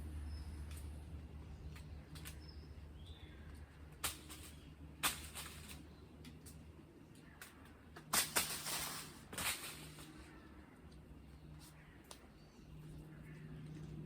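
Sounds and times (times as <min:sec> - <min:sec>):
leaves and branches rustling and snapping: 0:00.6 - 0:12.4.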